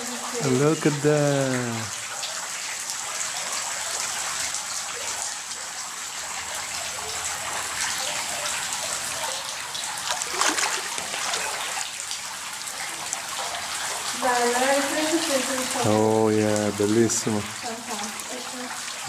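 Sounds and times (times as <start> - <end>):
water drops splashing into pool: 0.0 - 16.0.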